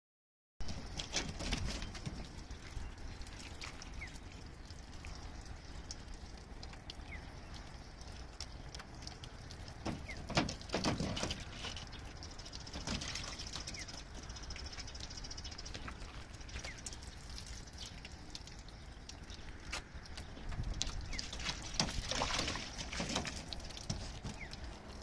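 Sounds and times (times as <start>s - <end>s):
thumps and splashes: 0.6s - 4.5s, 8.0s - 15.0s, 15.6s - 25.0s
paws splashing on wet plastic: 0.7s - 25.0s.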